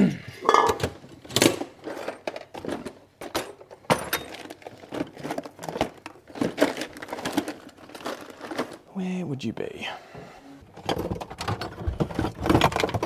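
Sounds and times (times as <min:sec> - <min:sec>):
items knocking and clinking on shelf: 0:00.4 - 0:08.9, 0:10.7 - 0:13.0.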